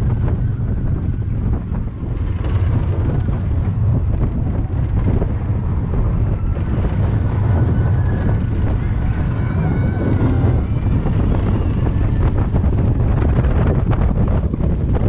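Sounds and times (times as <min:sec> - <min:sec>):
roller coaster train rumbling: 0:00.0 - 0:15.0
wind on microphone: 0:00.0 - 0:15.0.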